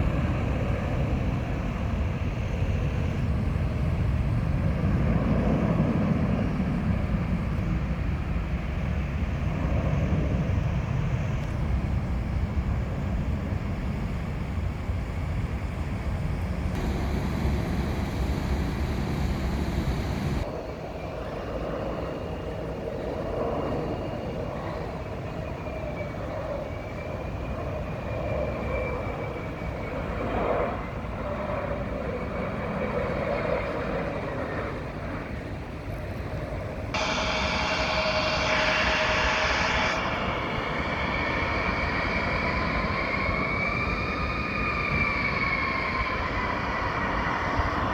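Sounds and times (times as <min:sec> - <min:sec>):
distant jet engine rumble: 0:00.0 - 0:20.6, 0:29.9 - 0:47.9
jet engine whine: 0:00.0 - 0:47.9.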